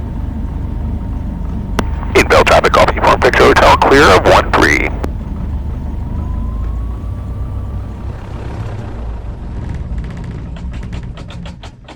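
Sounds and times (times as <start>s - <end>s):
airplane engine drone: 0.0s - 11.6s.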